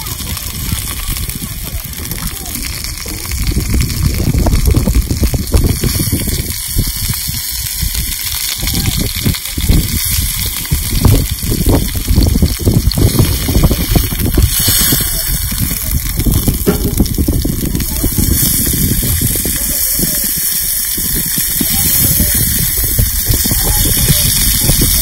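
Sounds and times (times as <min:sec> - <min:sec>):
low thumps and rumbling: 0:00.0 - 0:25.0
steaks sizzling on hot stone: 0:00.0 - 0:25.0.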